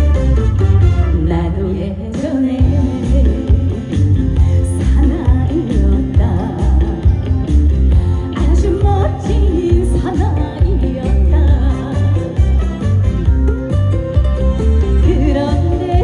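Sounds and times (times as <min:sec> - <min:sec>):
upbeat trot song played live: 0:00.0 - 0:16.0
woman singing: 0:01.1 - 0:12.9, 0:14.9 - 0:16.0
heavy pulsing bass beat: 0:02.6 - 0:16.0.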